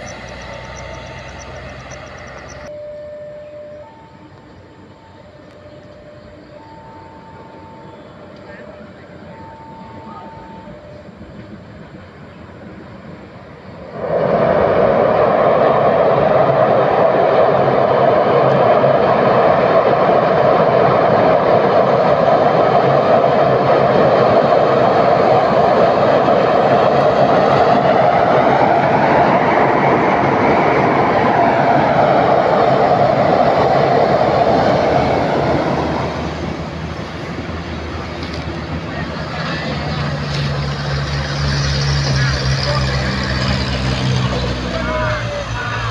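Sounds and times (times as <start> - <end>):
diesel locomotive engine: 0.0 - 45.9.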